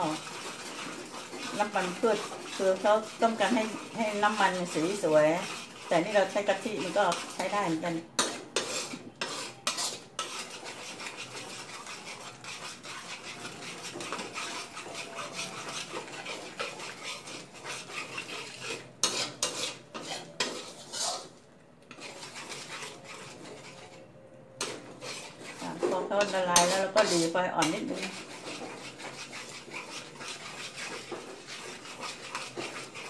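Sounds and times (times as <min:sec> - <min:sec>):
metal spatula scraping wok: 0:00.0 - 0:33.0.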